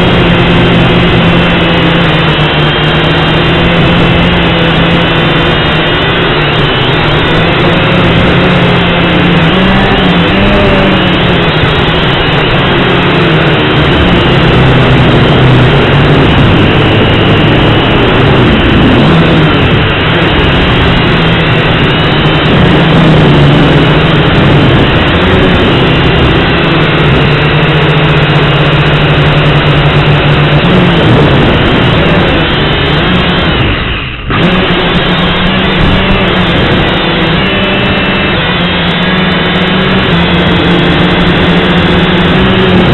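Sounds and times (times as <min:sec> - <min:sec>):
quadcopter motors whining: 0:00.0 - 0:42.9
rushing wind noise: 0:00.0 - 0:42.9.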